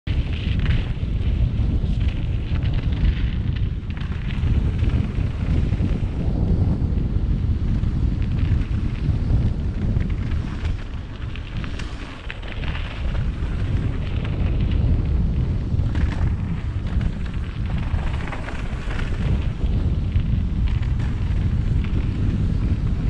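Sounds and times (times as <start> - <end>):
wind buffeting microphone: 0.0 - 23.0
bike tyres clattering over ground: 0.1 - 23.0.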